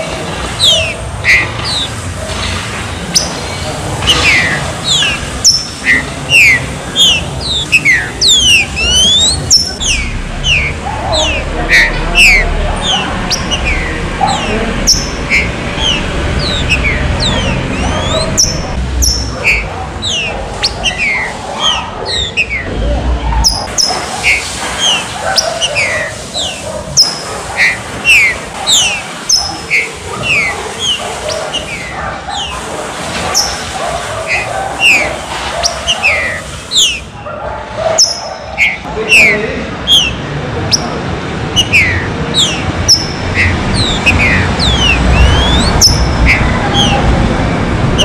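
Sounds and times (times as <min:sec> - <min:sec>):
birds whistling calls: 0:00.0 - 0:37.2, 0:37.8 - 0:48.0.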